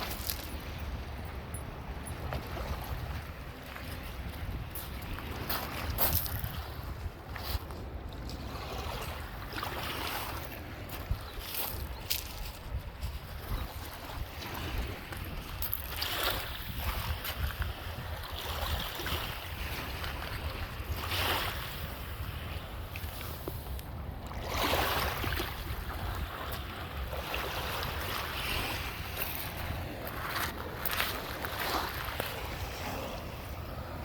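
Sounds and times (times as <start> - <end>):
waves washing on beach: 0.0 - 34.0
wind rumble on microphone: 0.0 - 34.0.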